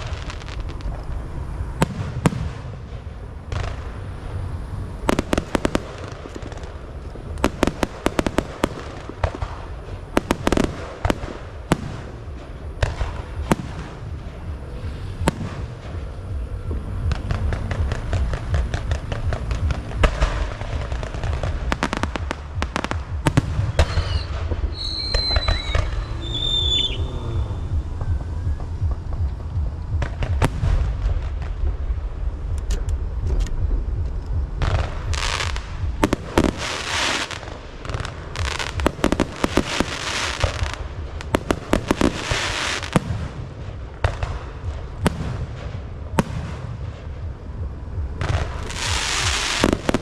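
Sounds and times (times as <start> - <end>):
fireworks whistling: 0.0 - 47.3, 48.0 - 50.0
fireworks cracking and banging: 0.0 - 50.0
low rumble: 0.0 - 50.0.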